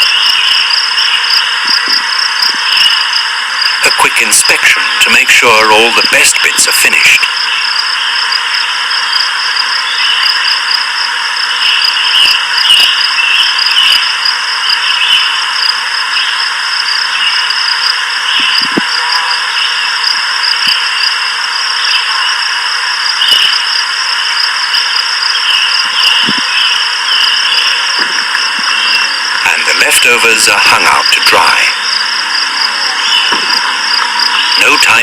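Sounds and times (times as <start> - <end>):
insects trilling: 0.0 - 35.0
loud high hiss: 0.0 - 35.0.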